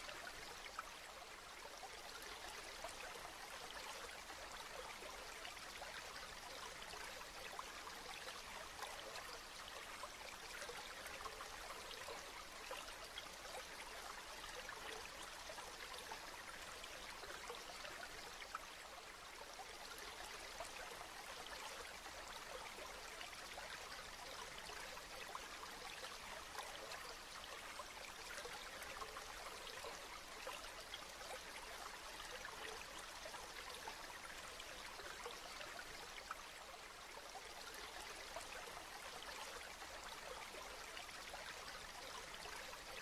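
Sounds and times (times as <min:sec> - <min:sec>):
soft steady rain: 0:00.0 - 0:43.0.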